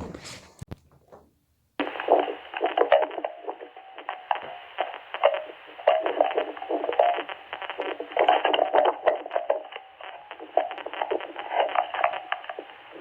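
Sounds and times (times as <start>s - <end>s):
rapid clicks over radio: 1.8s - 13.0s.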